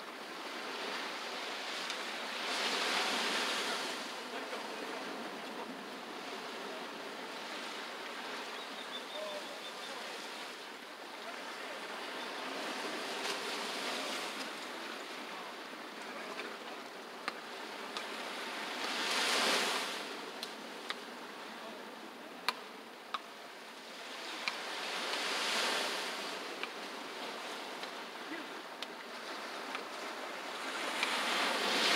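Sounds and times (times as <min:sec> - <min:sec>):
ocean surf on sandy beach: 0:00.0 - 0:31.9
waves breaking: 0:00.0 - 0:31.9.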